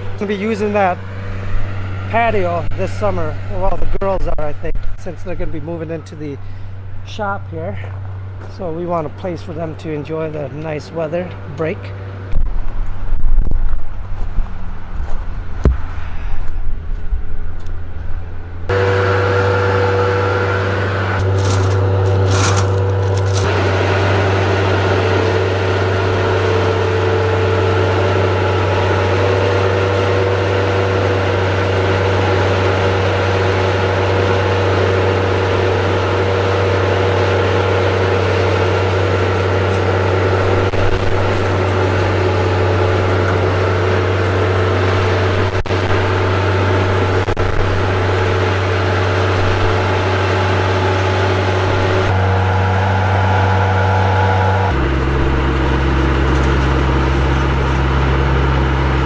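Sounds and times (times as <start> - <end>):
machine engine running: 0.0 - 59.0.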